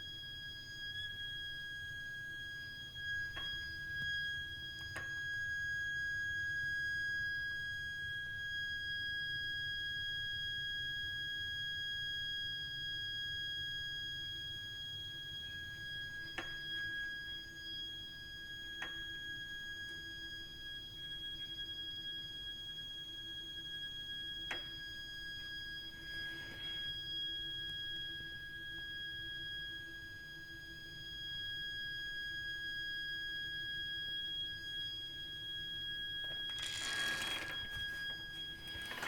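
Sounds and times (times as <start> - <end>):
shrill high-pitched whistle: 0.0 - 39.0.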